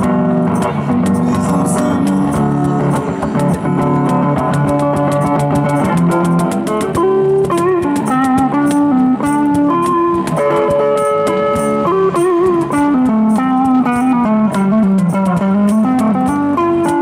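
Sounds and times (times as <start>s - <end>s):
cajon beat: 0.0s - 17.0s
electric bass: 0.0s - 17.0s
electric guitar melody: 0.0s - 17.0s.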